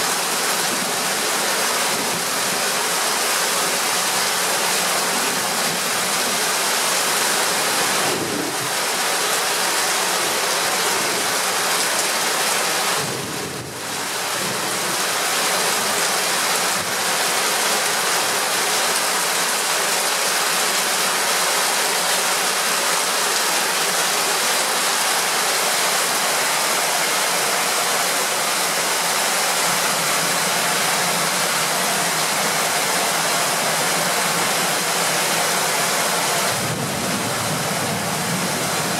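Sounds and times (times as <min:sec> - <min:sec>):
heavy rain hissing: 0:00.0 - 0:38.9
water pouring off roof: 0:00.0 - 0:38.9.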